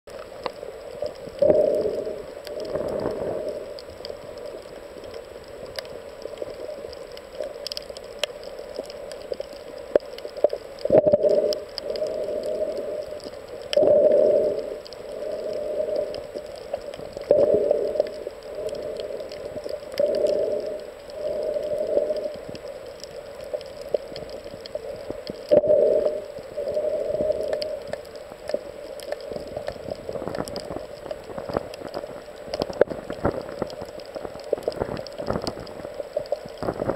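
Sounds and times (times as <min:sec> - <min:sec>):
steady hiss: 0:00.1 - 0:36.9.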